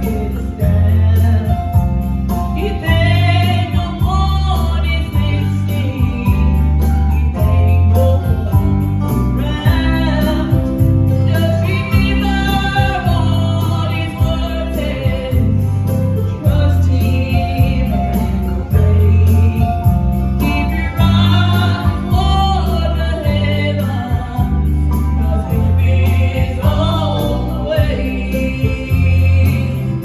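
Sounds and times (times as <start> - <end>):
gospel singing with band: 0.0 - 30.0.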